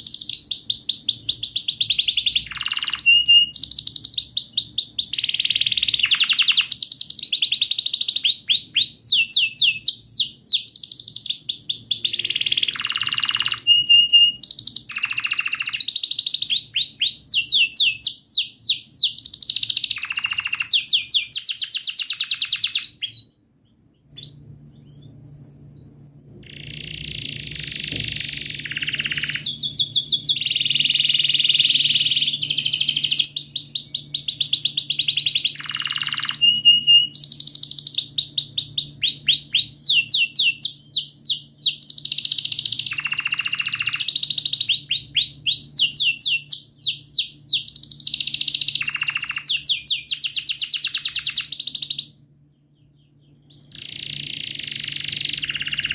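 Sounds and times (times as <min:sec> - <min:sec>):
canary singing trills: 0:00.0 - 0:55.9
faint low hum: 0:00.0 - 0:55.9.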